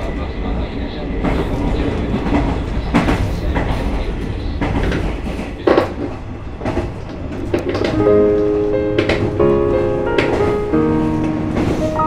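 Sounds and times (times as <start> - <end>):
train running gear rumble: 0.0 - 12.0
wheels clacking over rail joints: 1.2 - 12.0.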